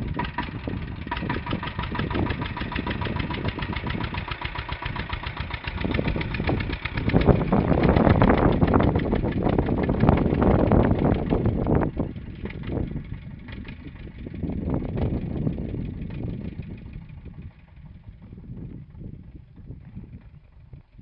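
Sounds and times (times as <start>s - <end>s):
motorcycle engine knocking: 0.0s - 21.0s.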